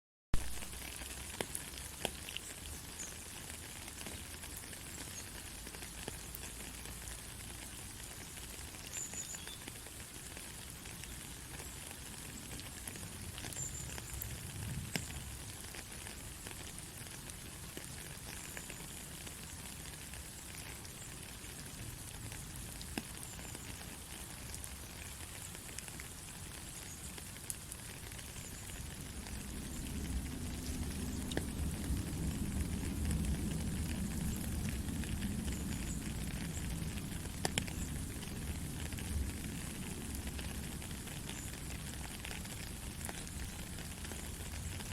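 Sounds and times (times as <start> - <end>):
soft rain patter: 0.4 - 44.9.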